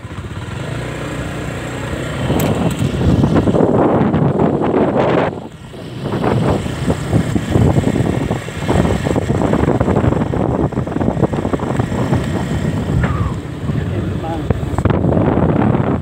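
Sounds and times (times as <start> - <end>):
small motorcycle engine running: 0.0 - 16.0
wind buffeting microphone: 0.0 - 16.0.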